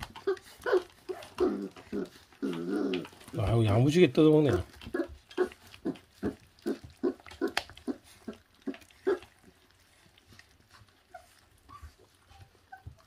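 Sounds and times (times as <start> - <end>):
puppies chewing meat: 0.0 - 13.0.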